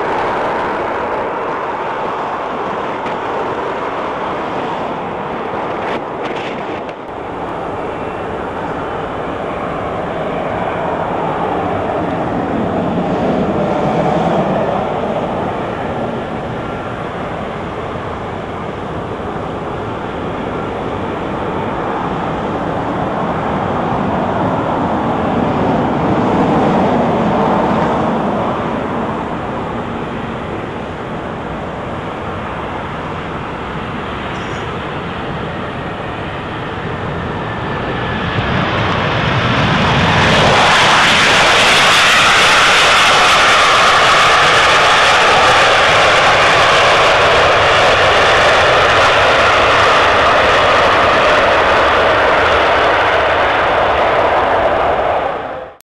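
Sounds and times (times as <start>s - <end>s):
jet engine roar: 0.0s - 55.8s.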